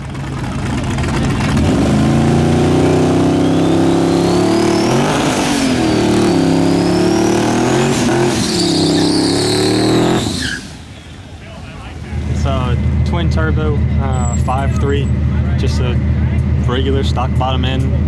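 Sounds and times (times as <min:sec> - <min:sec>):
engine at full throttle: 0:00.0 - 0:18.0
turbo whine: 0:00.4 - 0:18.0.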